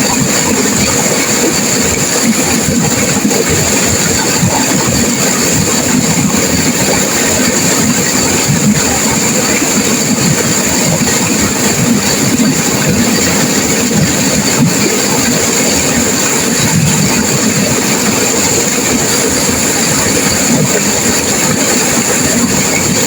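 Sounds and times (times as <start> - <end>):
river water rushing over rocks: 0.0 - 23.0.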